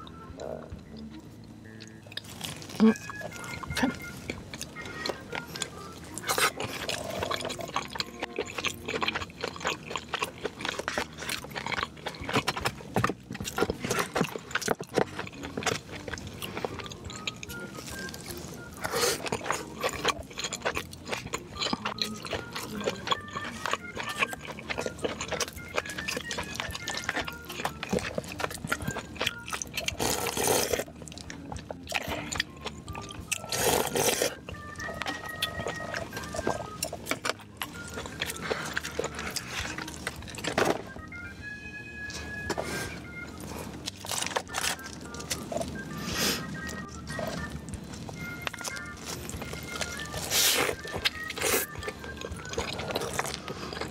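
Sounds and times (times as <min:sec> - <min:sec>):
crunching and chewing crispy food: 0:00.0 - 0:53.9
quiet melody: 0:00.0 - 0:53.9.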